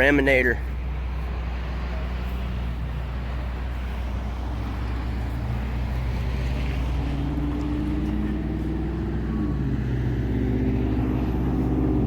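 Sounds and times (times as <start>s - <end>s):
traffic low rumble: 0.0s - 12.0s.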